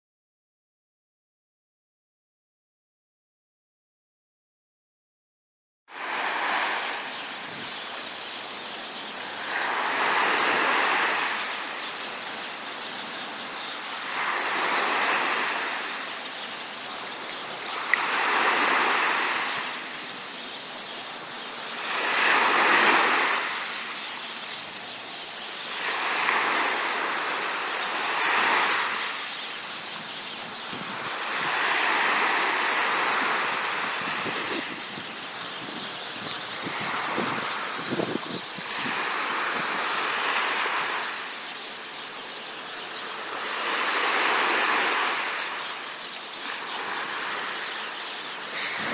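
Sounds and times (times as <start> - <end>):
sea waves breaking on beach: 5.9 - 35.7, 36.6 - 48.9
hiss of surf: 5.9 - 48.9.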